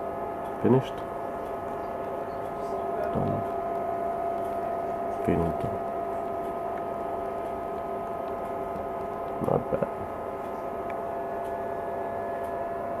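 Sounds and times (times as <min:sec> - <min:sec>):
steady multi-tone hum: 0:00.0 - 0:13.0.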